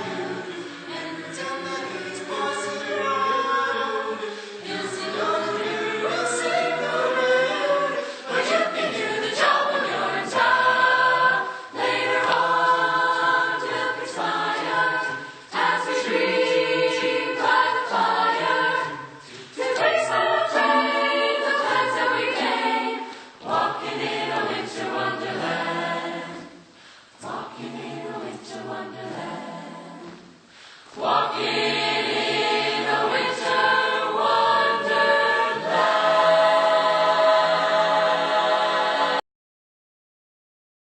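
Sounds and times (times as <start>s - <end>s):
choir singing in harmony: 0.0s - 39.2s.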